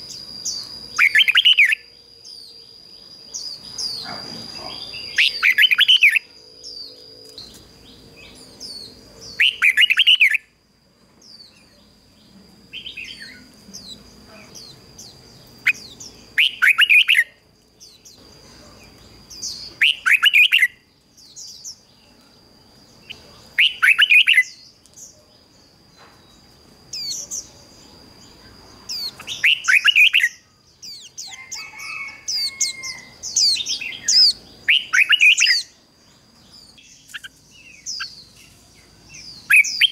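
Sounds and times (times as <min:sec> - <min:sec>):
bulbul singing warbled phrases: 0:00.0 - 0:10.5, 0:11.2 - 0:25.2, 0:26.9 - 0:39.9.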